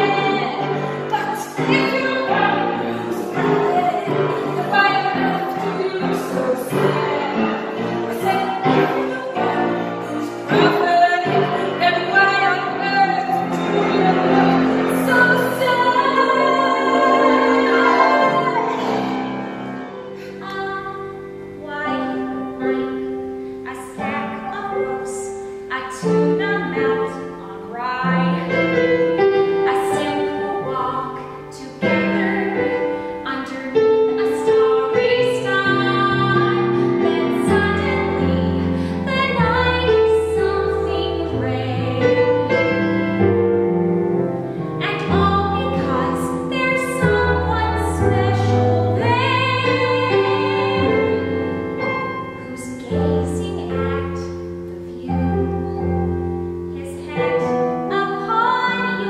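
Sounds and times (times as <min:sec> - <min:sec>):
woman singing: 0:00.0 - 0:43.3, 0:44.8 - 0:59.0
instrumental accompaniment: 0:00.0 - 0:59.0.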